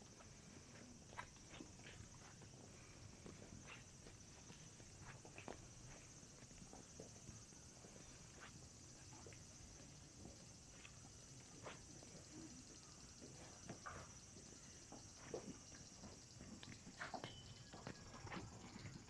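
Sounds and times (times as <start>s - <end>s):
high insect trill: 0.0s - 19.0s.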